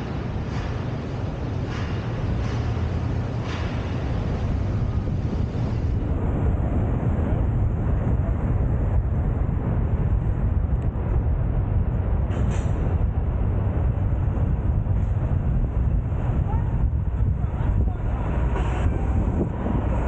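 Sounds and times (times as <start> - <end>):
road and traffic rumble: 0.0 - 20.0
wind on microphone: 0.0 - 20.0.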